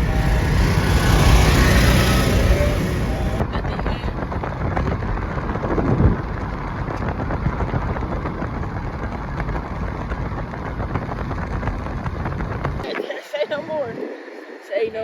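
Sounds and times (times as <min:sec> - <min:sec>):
car road and engine rumble: 0:00.0 - 0:12.9.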